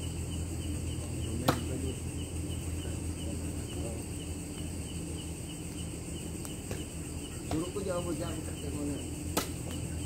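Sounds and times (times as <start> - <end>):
night insects chorus: 0.0 - 10.0.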